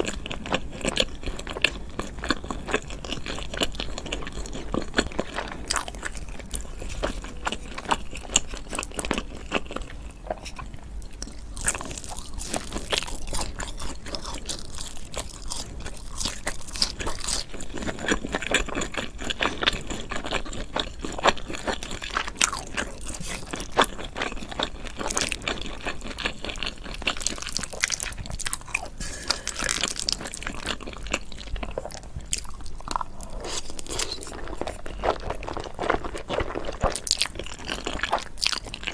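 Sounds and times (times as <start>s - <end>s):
mouth chewing crunchy food: 0.0s - 38.9s.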